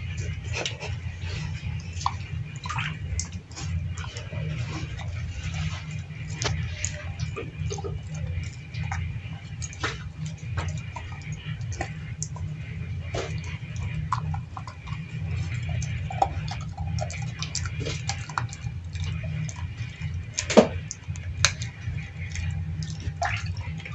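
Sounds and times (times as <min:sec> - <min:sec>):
dog chewing on wires and parts: 0:00.0 - 0:23.9
steady low hum: 0:00.0 - 0:23.9.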